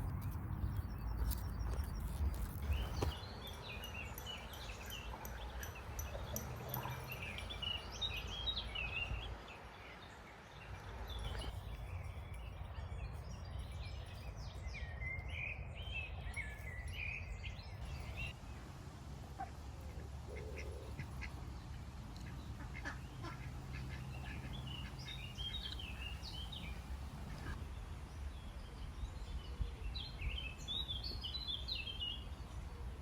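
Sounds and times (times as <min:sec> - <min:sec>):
small birds singing: 0:00.0 - 0:18.6, 0:19.4 - 0:33.0.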